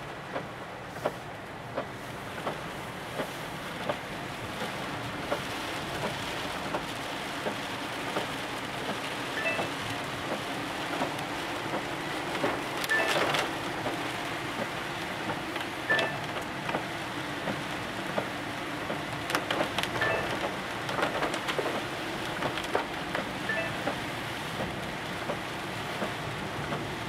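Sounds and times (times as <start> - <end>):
moving car hum: 0.0 - 27.0
rain pattering on car roof: 0.0 - 27.0.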